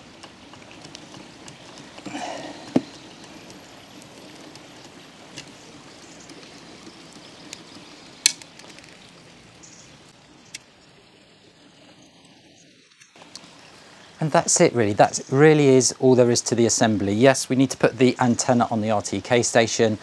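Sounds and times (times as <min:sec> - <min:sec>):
faint steady hiss: 0:00.0 - 0:20.0
rustle: 0:00.0 - 0:20.0.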